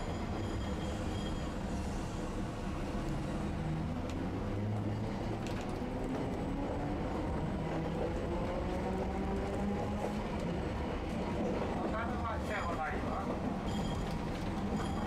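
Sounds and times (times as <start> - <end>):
streetcar rumble: 0.0 - 15.0.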